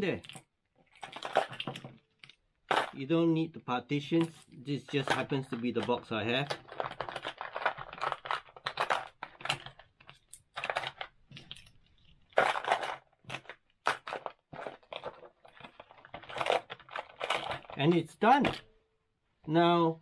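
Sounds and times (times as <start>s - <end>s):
metal and plastic parts clattering: 0.2s - 3.0s, 4.1s - 18.7s.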